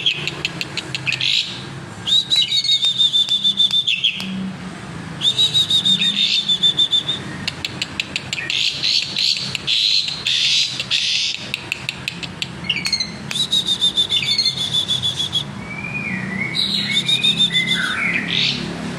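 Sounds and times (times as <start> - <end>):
starling singing: 0.0 - 4.4, 5.2 - 18.7.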